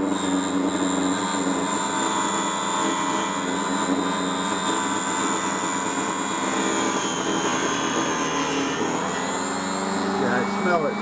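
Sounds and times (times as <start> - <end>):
table saw cutting plastic: 0.0 - 11.0.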